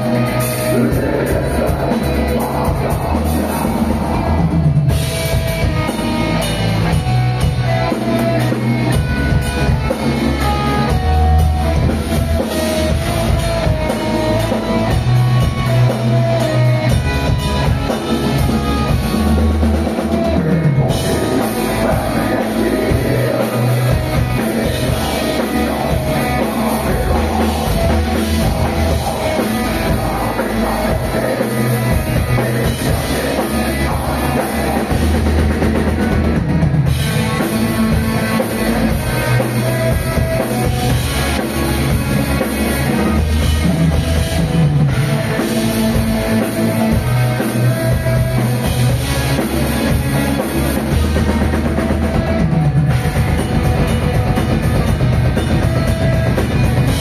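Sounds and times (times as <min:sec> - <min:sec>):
distorted electric guitar: 0:00.0 - 0:57.0
pounding drum kit: 0:00.0 - 0:57.0.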